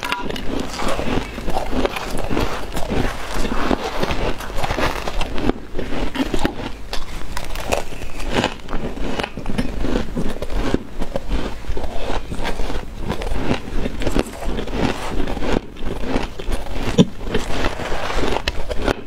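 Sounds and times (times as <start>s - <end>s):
spoon scooping through frost: 0.0s - 18.9s
chewing crunchy frost: 0.0s - 19.0s.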